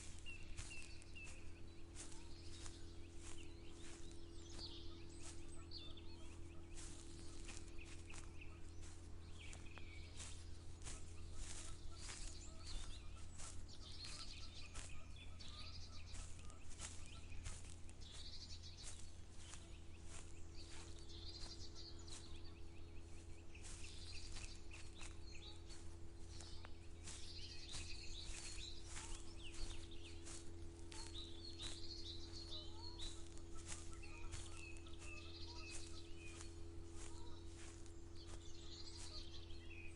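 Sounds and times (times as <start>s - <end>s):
birds chirping and singing: 0.0s - 39.9s
footsteps walking: 0.0s - 39.9s
steady low hum: 0.0s - 39.9s.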